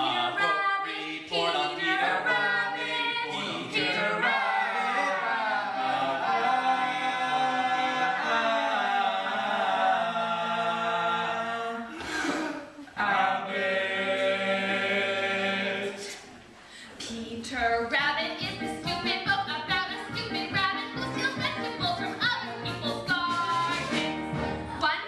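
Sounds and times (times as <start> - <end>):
group singing in harmony: 0.0 - 16.4, 18.0 - 24.9.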